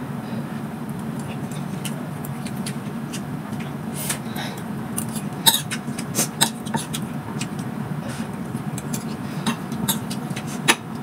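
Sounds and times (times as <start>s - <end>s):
chewing: 0.9s - 10.8s.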